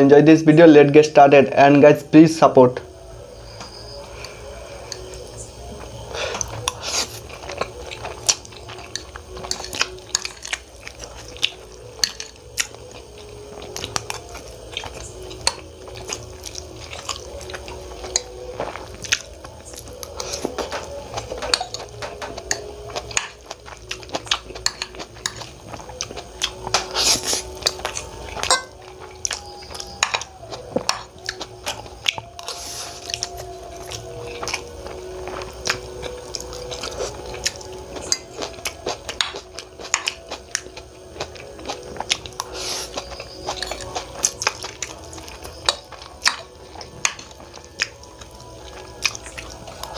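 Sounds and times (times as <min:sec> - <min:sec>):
wet chewing: 0:04.0 - 0:49.9.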